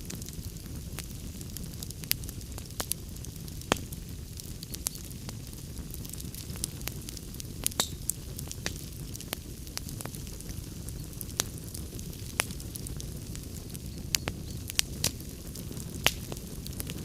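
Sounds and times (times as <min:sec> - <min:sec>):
wood fire crackling in a fireplace: 0:00.0 - 0:17.0.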